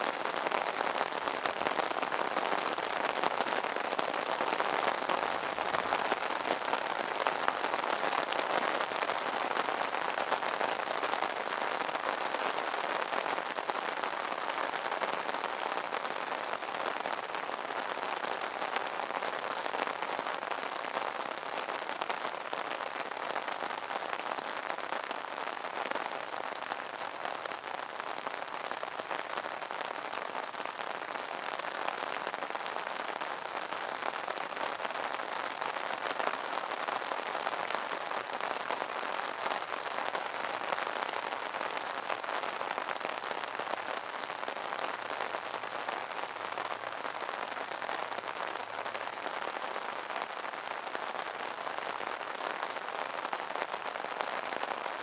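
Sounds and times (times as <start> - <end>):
rain pattering on an umbrella: 0.0 - 55.0.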